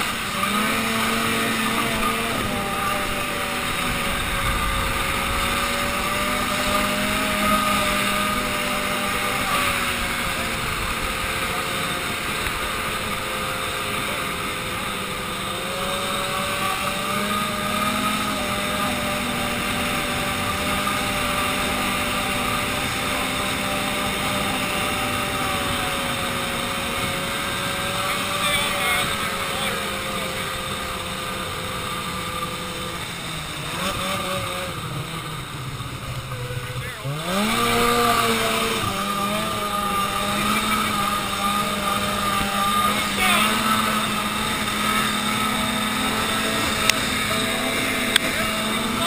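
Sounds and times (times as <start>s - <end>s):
snowmobile engine running: 0.0s - 49.0s
wind and track noise: 0.0s - 49.0s.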